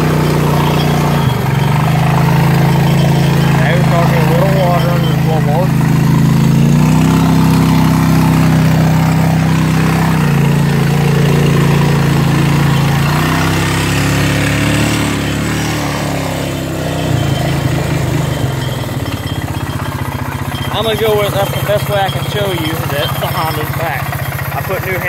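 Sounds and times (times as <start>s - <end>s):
ride-on machine engine running: 0.0s - 25.0s.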